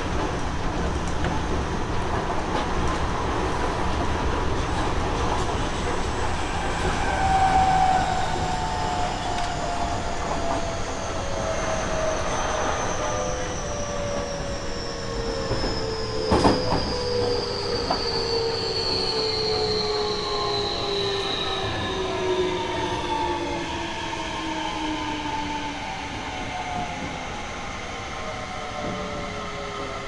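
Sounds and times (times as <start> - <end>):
wheel and rail rumble: 0.0 - 24.9
train inverter and motors whining: 0.0 - 30.0.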